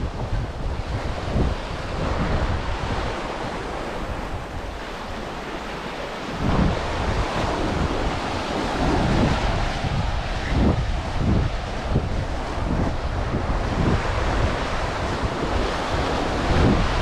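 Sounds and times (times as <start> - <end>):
waves breaking on sandy beach: 0.0 - 17.0
wind buffeting microphone: 0.0 - 17.0.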